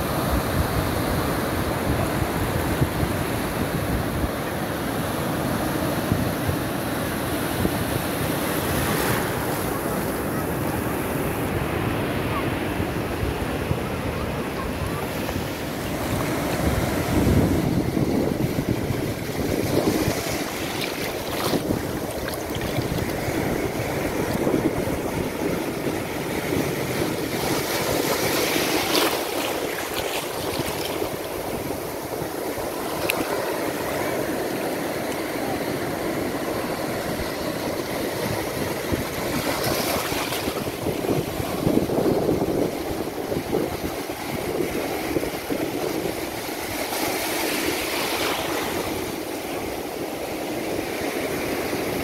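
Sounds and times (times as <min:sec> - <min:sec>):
surf washing over rocks: 0:00.0 - 0:52.0.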